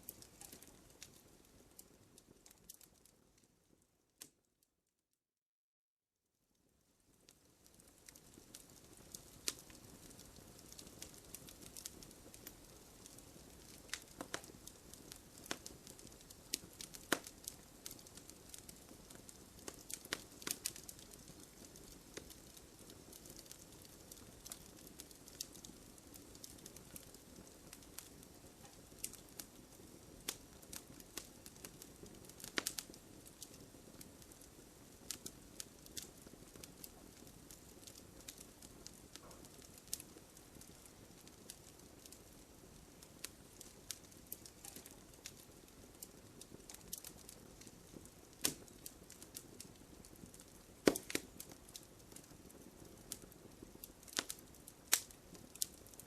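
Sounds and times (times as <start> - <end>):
campfire crackling and popping: 0.0 - 4.4, 7.1 - 56.0.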